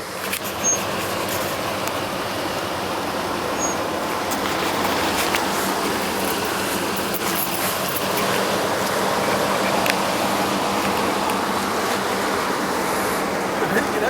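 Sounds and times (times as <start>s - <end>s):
engine and tyre drone: 0.0s - 14.0s.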